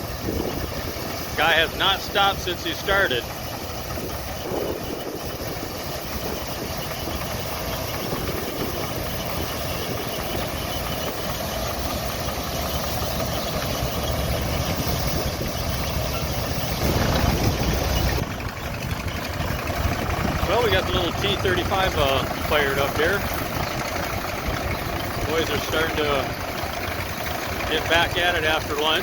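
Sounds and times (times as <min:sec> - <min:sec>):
crawler tractor engine running: 0:00.0 - 0:29.0.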